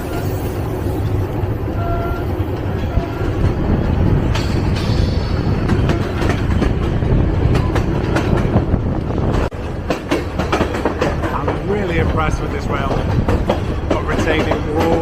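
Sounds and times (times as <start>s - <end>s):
train rumbling on track: 0.0s - 15.0s
wheels clicking over rails: 0.0s - 15.0s.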